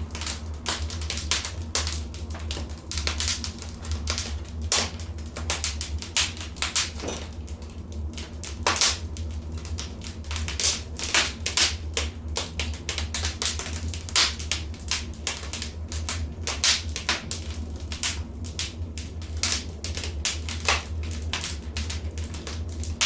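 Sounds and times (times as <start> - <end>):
low fire rumble: 0.0 - 23.0
wood fire snaps and pops: 0.0 - 23.0.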